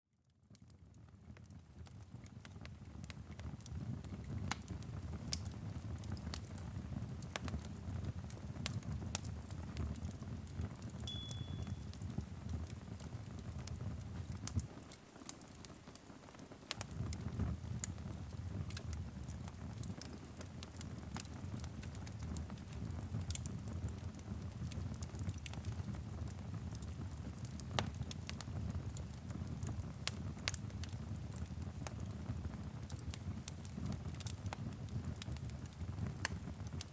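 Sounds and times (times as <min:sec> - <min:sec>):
wood fire crackling and popping: 0:00.4 - 0:36.9.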